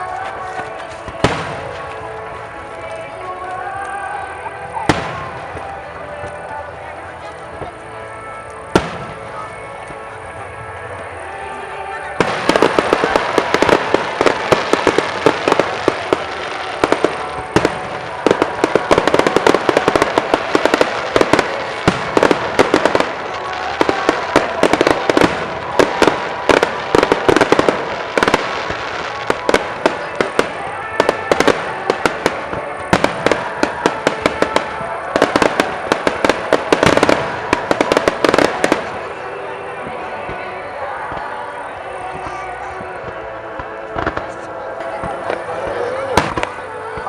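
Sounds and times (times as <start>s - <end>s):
fireworks bangs and crackles: 0.0s - 47.0s
music playing: 0.0s - 47.0s.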